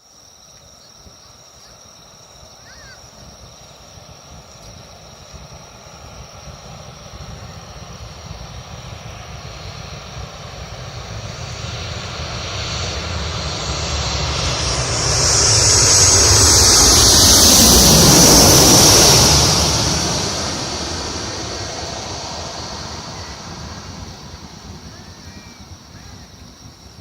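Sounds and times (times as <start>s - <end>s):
airplane passing overhead: 0.2s - 27.0s.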